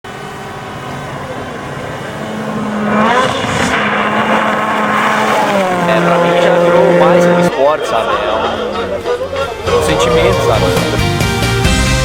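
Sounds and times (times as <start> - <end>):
rally car engine running hard: 0.1 - 12.0.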